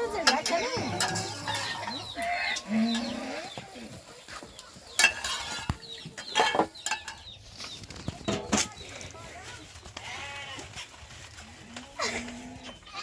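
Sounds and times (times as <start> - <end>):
farm animals calling: 0.0 - 13.0.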